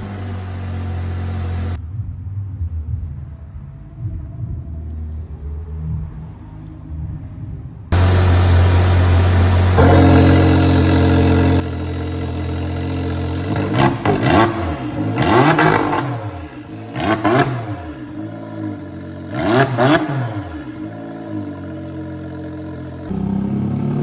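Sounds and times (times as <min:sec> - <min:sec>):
engine revving with throttle blips: 0:00.0 - 0:01.8, 0:05.4 - 0:24.0
engine and exhaust running: 0:00.0 - 0:24.0.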